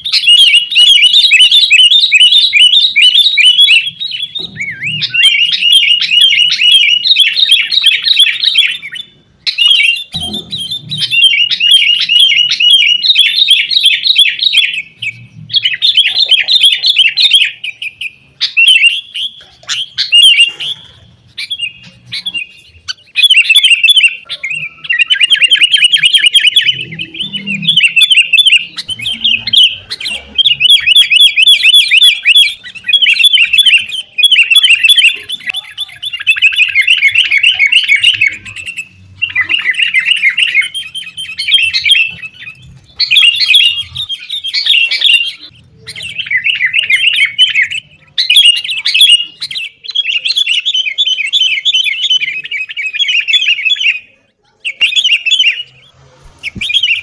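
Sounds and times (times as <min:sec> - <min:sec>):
bulbuls chattering calls: 0:00.0 - 0:57.0.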